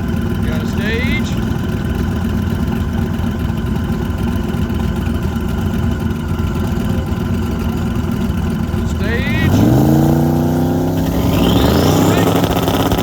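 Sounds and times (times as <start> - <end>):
car engine idling choppy rumble: 0.0 - 13.0.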